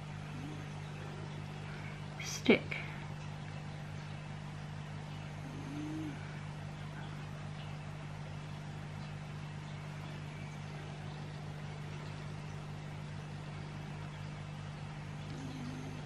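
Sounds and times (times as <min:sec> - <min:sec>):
low hum with flutter: 0:00.0 - 0:16.0.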